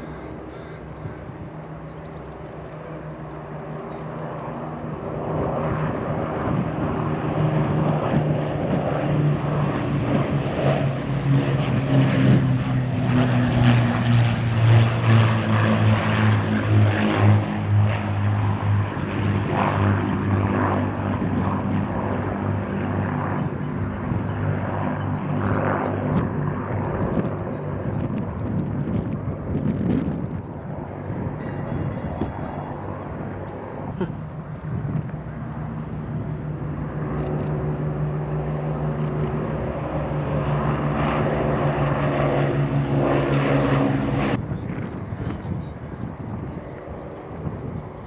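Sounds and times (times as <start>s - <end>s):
propeller aircraft engines droning: 0.0s - 48.0s.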